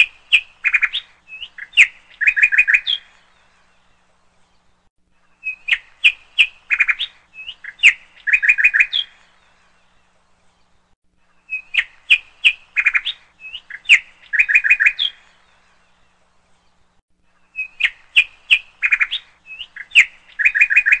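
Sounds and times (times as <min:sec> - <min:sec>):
bird chirps and trills: 0:00.0 - 0:21.0.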